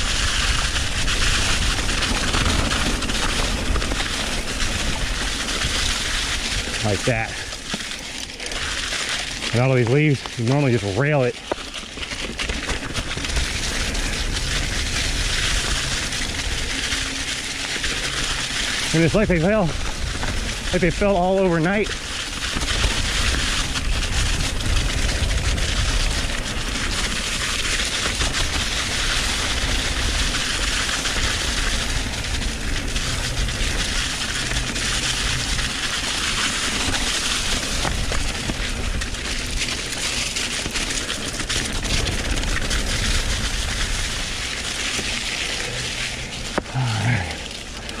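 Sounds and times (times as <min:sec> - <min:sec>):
wind rumble on microphone: 0:00.0 - 0:07.6, 0:12.1 - 0:21.1, 0:21.7 - 0:48.0
tyres crunching dry leaves: 0:00.0 - 0:48.0.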